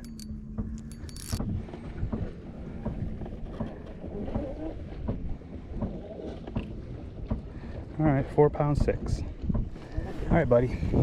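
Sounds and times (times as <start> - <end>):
steady low hum: 0.0 - 11.0
wind rumble on microphone: 0.0 - 11.0.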